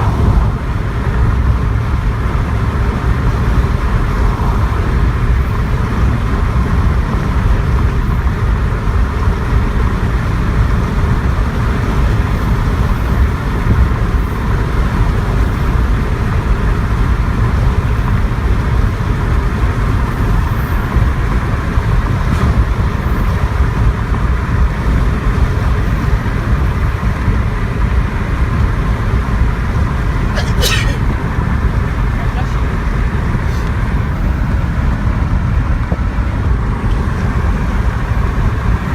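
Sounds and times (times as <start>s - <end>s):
vehicle engine and road noise: 0.0s - 38.9s.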